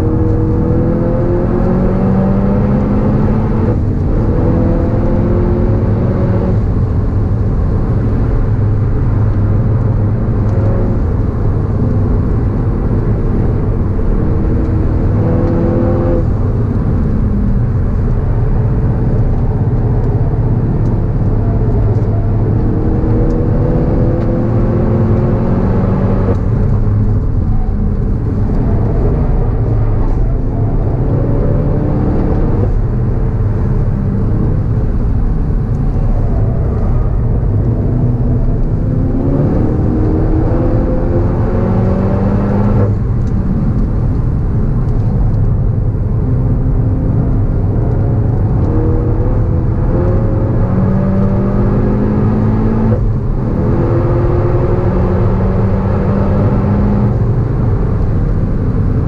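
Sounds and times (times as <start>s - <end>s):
car engine accelerating hard: 0.0s - 59.0s
low wind noise: 0.0s - 59.0s
road rumble: 0.0s - 59.0s.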